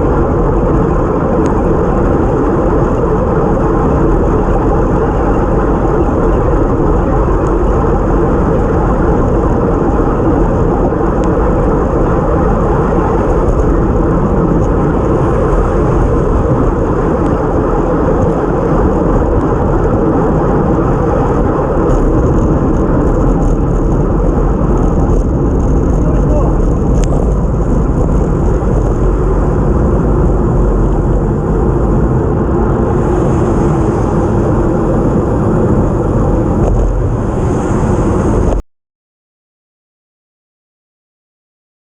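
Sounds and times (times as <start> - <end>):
bike tyre road noise: 0.0 - 38.6
wind rushing over microphone: 0.0 - 38.6.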